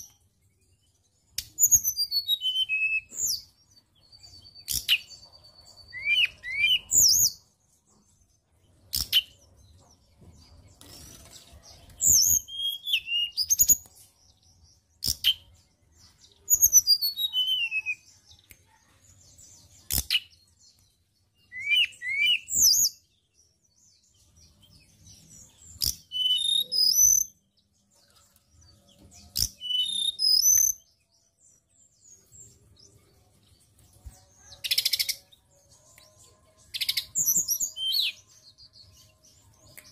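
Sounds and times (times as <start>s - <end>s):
bird singing whistles and chirps: 0.0s - 7.5s, 11.0s - 18.4s, 19.8s - 27.7s, 28.6s - 33.0s, 34.1s - 39.9s.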